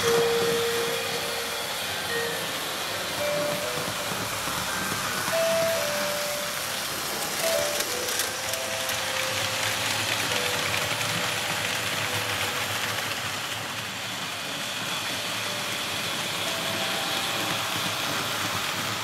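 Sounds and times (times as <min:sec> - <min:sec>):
model locomotive motor: 0:00.0 - 0:19.0
model train wheels on rails: 0:00.0 - 0:19.0.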